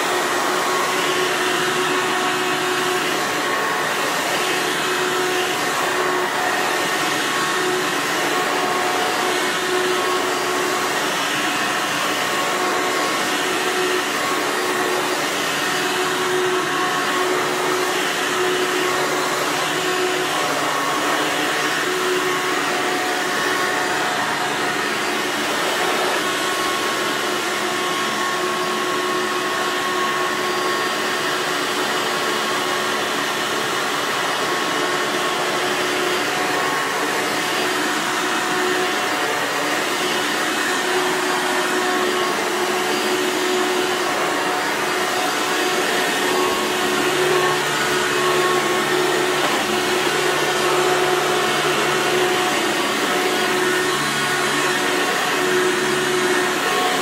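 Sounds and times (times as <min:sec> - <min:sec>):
vacuum cleaner motor whining: 0:00.0 - 0:57.0.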